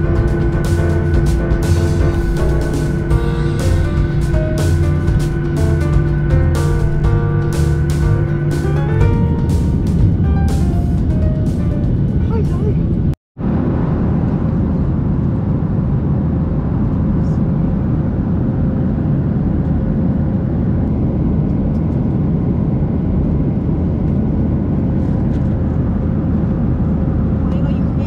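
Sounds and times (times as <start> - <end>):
airliner cabin engine rush: 0.0 - 28.0.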